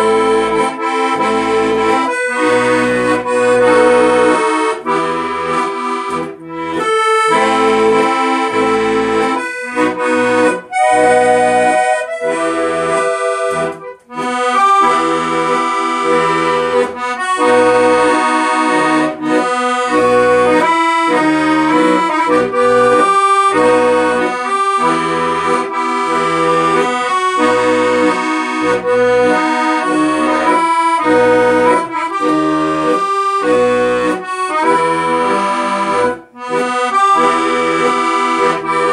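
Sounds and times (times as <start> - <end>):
accordion music: 0.0 - 38.9.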